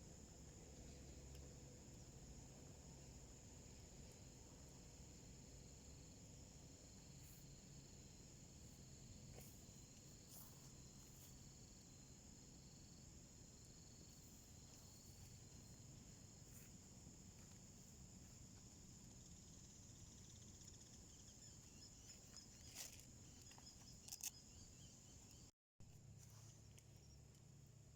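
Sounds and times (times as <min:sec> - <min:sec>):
high insect trill: 0:02.0 - 0:25.5.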